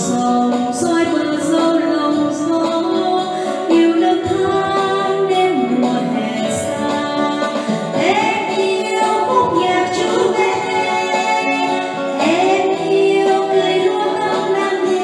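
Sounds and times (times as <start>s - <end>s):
instrumental backing music: 0.0s - 15.0s
woman singing: 0.0s - 15.0s.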